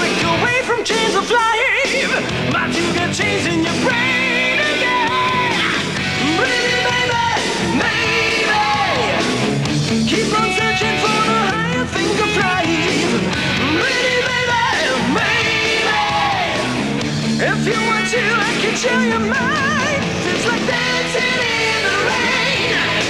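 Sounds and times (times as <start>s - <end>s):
man singing: 0.0s - 9.4s, 10.0s - 23.0s
hard rock band: 0.0s - 23.0s.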